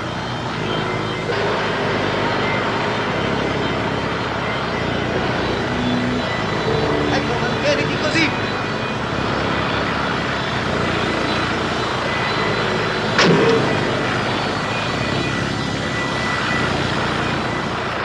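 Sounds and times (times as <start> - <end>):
helicopter drone: 0.0 - 18.0.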